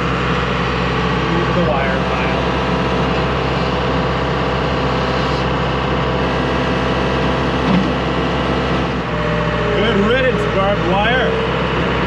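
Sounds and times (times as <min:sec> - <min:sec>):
engine running heard from cab: 0:00.0 - 0:12.0.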